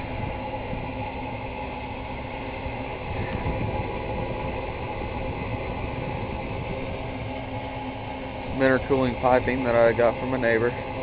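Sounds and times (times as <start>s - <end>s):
blower whirring: 0.0s - 11.0s
car engine running: 0.0s - 11.0s.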